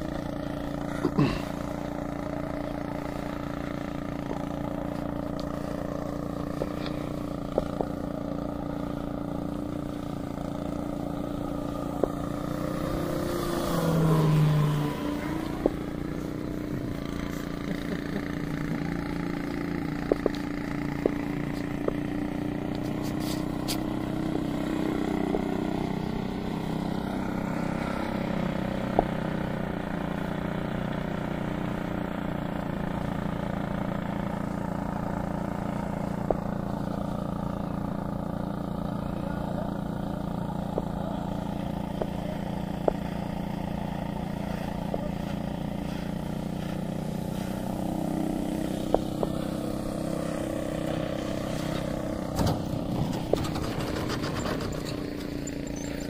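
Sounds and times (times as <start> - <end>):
rc plane propeller drone: 0.0 - 56.0.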